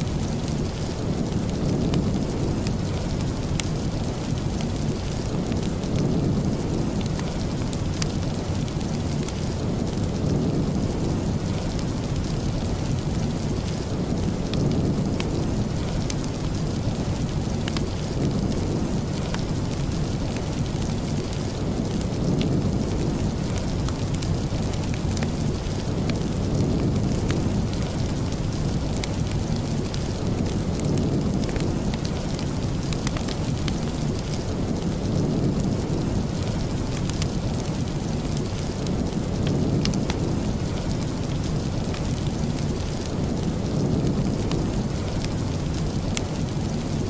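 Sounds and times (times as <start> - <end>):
sharp crackles and drips: 0.0 - 47.0
steady rain: 0.0 - 47.0.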